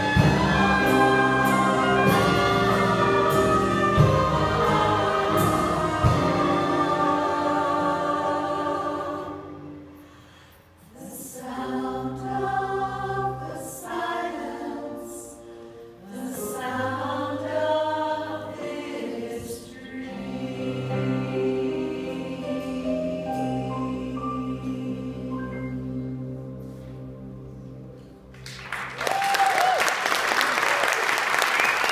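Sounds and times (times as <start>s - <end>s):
choir singing held chords: 0.0s - 28.4s.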